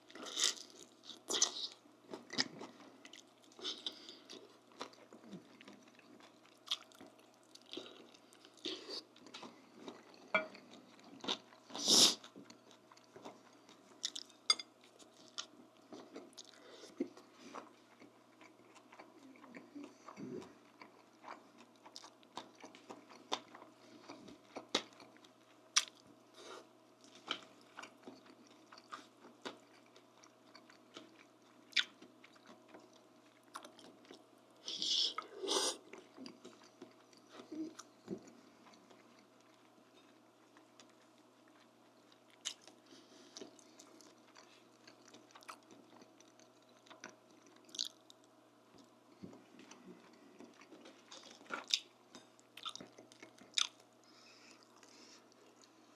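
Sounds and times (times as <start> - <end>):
food crunching: 0.0 - 26.1, 35.2 - 55.8
faint steady hum: 0.0 - 55.9
person chewing: 0.0 - 55.9.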